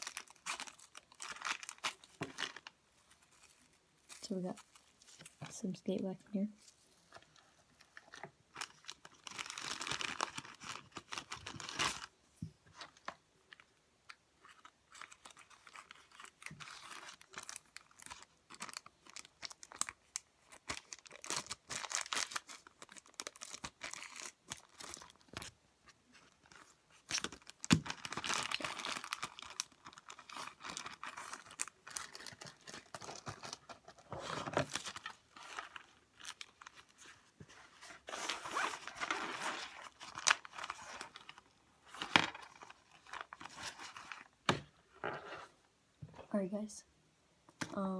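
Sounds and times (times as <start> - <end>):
packaging rustling and crinkling: 0.0 - 5.7, 6.6 - 13.8, 14.4 - 45.5.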